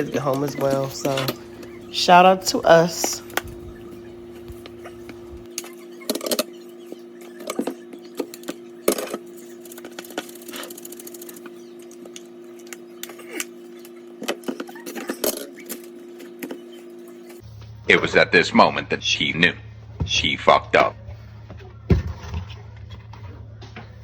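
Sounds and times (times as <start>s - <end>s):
low appliance hum: 0.0s - 24.0s.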